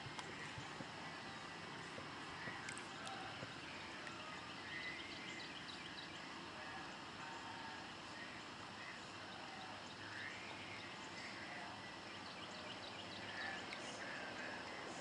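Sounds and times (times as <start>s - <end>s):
steady outdoor hiss: 0.0s - 15.0s
bird chirps: 0.2s - 7.9s, 8.8s - 15.0s.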